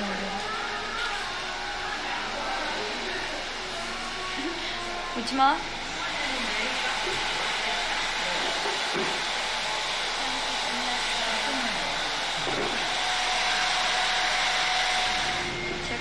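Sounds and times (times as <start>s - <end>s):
hair dryer blowing: 0.0s - 15.8s.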